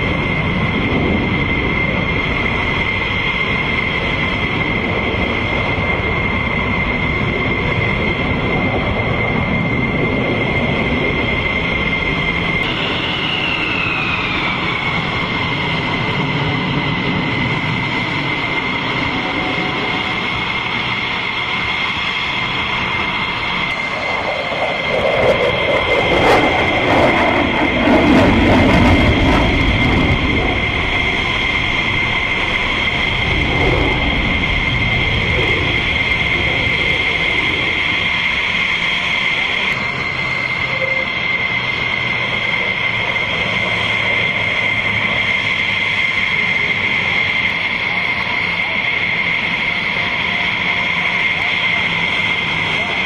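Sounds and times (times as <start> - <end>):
jet engine noise with whine: 0.0 - 53.0.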